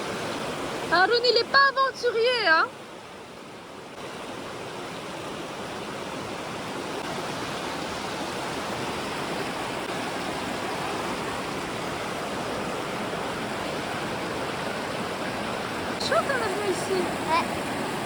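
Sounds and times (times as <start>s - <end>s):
river rushing over rocks: 2.8s - 18.0s.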